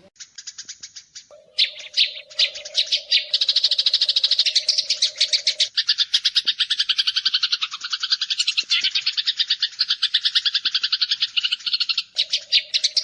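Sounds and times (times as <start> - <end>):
sparrow chattering: 0.0 - 13.0.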